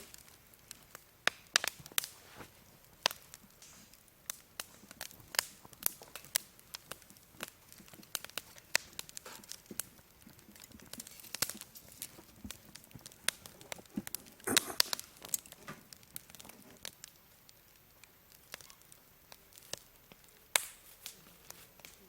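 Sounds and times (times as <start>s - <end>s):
campfire crackling: 0.0s - 22.0s
sharp pops and snaps: 0.0s - 22.0s.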